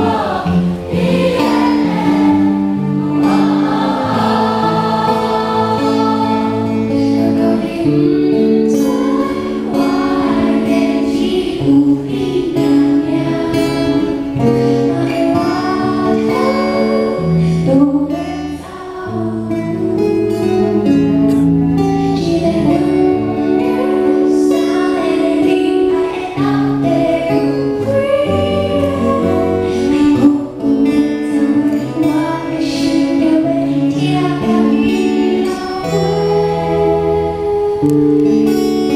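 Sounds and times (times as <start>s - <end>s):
band playing chords and guitar: 0.0s - 38.9s
woman singing pop song: 4.3s - 38.9s.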